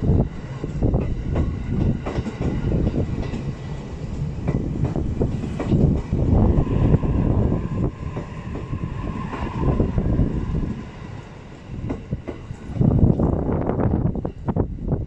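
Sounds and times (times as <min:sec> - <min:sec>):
electric train running: 0:00.0 - 0:15.0
wind buffeting microphone: 0:00.0 - 0:15.0.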